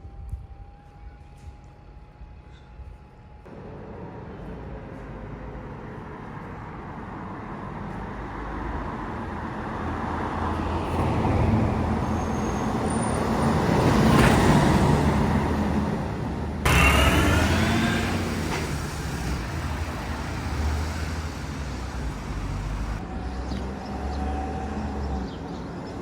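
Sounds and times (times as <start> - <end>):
bus engine rumble: 1.4 - 23.6
road noise: 1.4 - 26.0.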